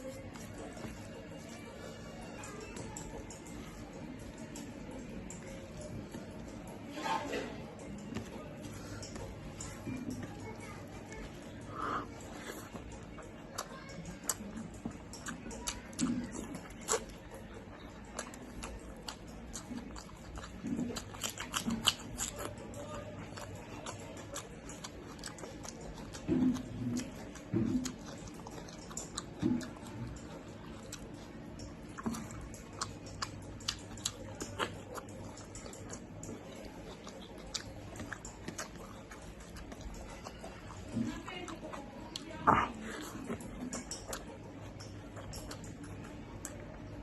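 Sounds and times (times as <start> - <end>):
person chewing food: 0.0 - 47.0.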